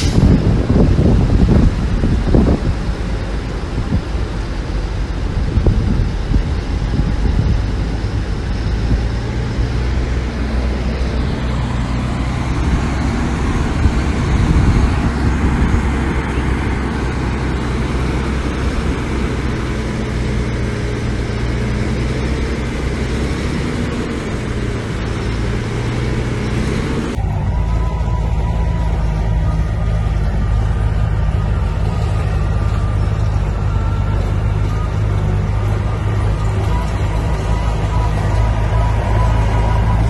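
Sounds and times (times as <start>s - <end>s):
diesel engine drone: 0.0s - 40.0s.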